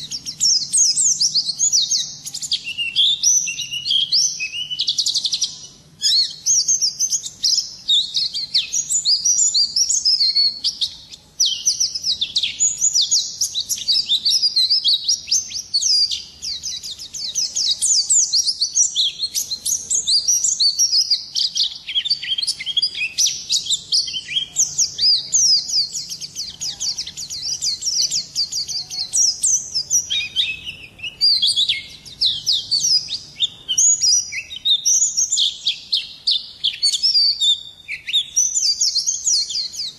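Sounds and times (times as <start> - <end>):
white-eye bird twittering song: 0.0 - 39.9.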